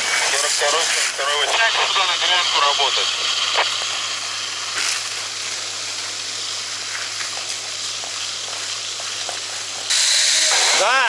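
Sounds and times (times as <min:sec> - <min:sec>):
fire hose spraying water: 0:00.0 - 0:11.0.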